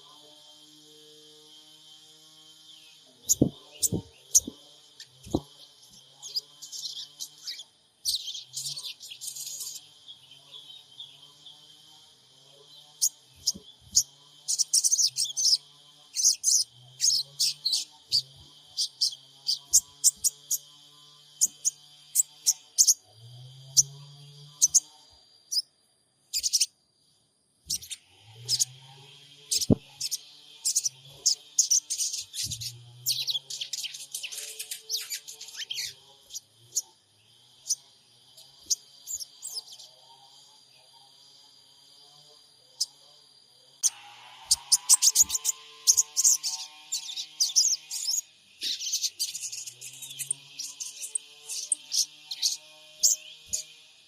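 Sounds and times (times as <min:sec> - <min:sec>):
birds chirping rapidly: 0:02.5 - 0:11.8, 0:12.6 - 0:24.9, 0:26.3 - 0:26.7, 0:27.7 - 0:37.8, 0:38.4 - 0:39.9, 0:43.8 - 0:53.8.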